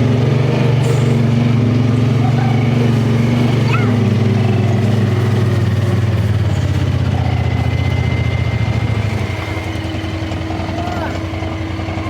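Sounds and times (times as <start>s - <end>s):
buggy engine running: 0.0s - 12.0s.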